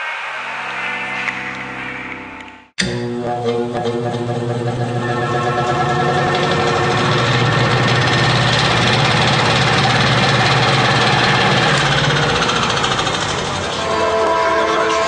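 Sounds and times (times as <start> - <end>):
mechanical engine rumble: 2.8 - 15.0.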